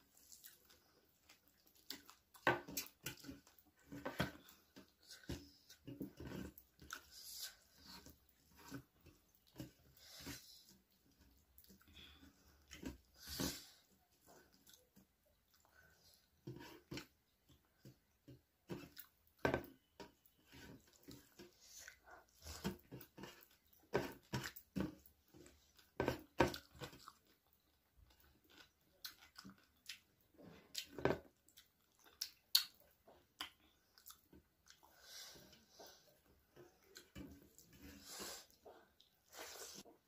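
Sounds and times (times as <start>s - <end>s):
close chewing with wet smacks: 0.0s - 10.0s, 10.6s - 13.0s, 14.0s - 16.2s, 17.0s - 19.4s, 20.2s - 37.8s, 38.5s - 40.0s.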